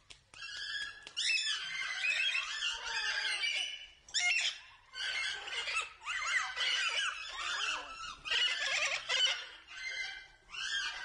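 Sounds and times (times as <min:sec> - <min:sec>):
lorikeets chattering and screeching: 0:01.2 - 0:11.0.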